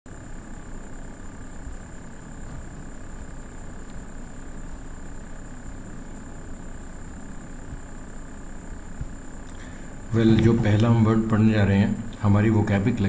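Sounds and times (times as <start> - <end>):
low rumble and hiss: 0.1 - 13.0
thin high-pitched whine: 0.1 - 13.0.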